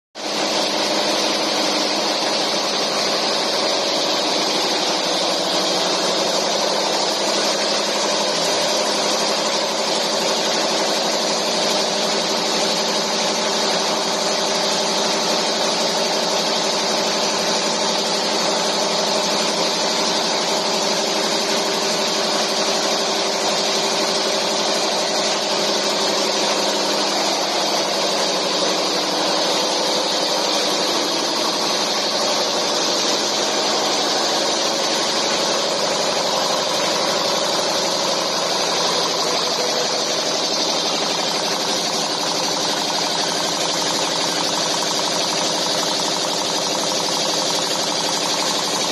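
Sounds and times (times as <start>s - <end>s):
nail-making machine running: 0.2s - 48.9s.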